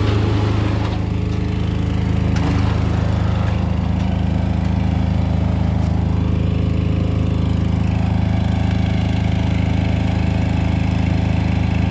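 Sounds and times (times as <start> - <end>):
machine droning: 0.0 - 10.2.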